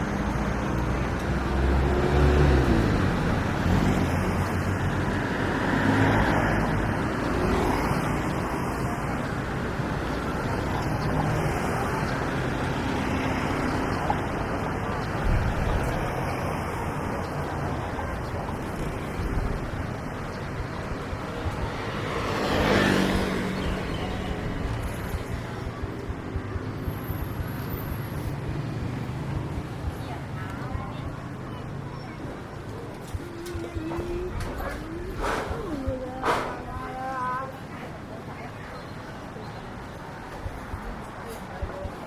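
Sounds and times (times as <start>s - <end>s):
road noise: 0.0s - 42.0s
vehicle engines passing: 0.0s - 42.0s.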